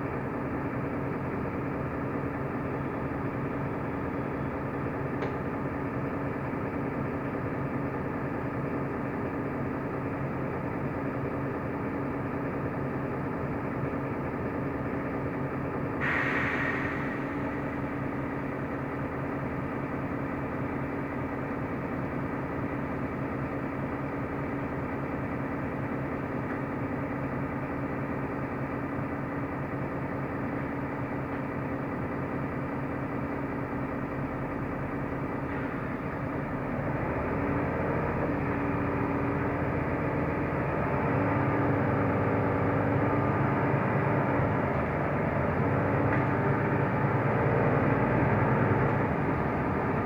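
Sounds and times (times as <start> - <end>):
bus diesel engine drone: 0.0 - 50.0
road noise: 0.0 - 50.0.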